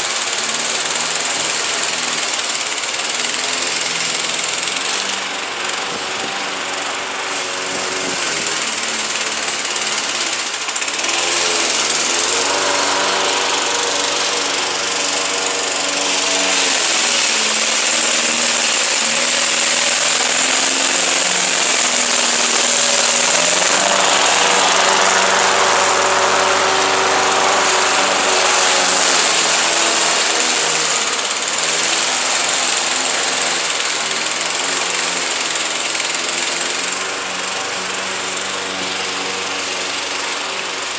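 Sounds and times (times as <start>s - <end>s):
lawn mower engine cutting grass: 0.0s - 40.9s.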